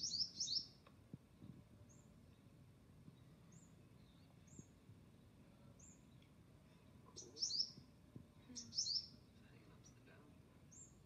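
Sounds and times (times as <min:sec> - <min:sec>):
small bird chirping: 0:00.0 - 0:00.8, 0:01.8 - 0:11.0.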